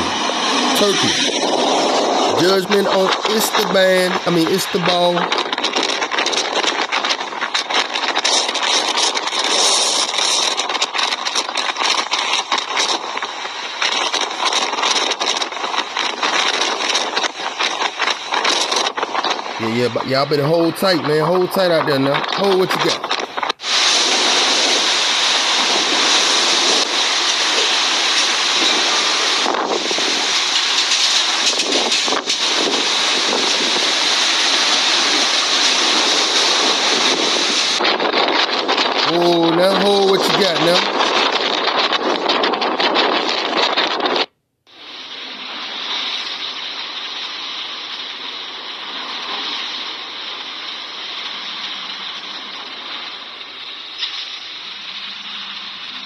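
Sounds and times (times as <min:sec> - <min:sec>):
strong storm wind gusting: 0:00.0 - 0:47.4
rough surf: 0:00.0 - 0:56.0.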